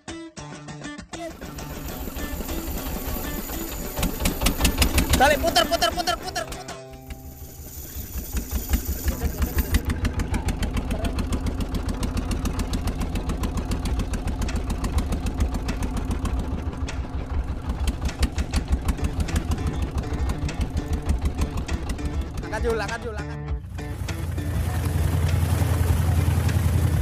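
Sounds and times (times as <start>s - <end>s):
motorboat engine chugging: 1.3s - 27.0s.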